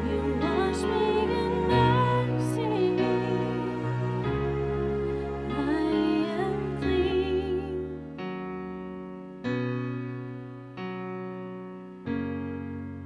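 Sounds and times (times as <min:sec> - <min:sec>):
electric piano chords: 0:00.0 - 0:13.0.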